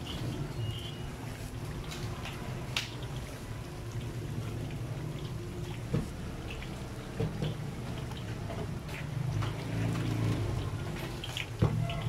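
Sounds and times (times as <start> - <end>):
fritters sizzling in hot oil: 0.0 - 12.0
small crackles of oil: 0.0 - 12.0.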